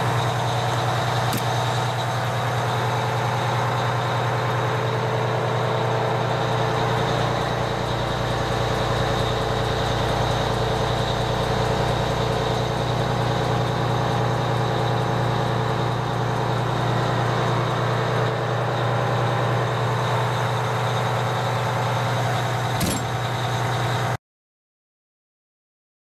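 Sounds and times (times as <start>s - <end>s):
diesel engine idling: 0.0s - 24.2s.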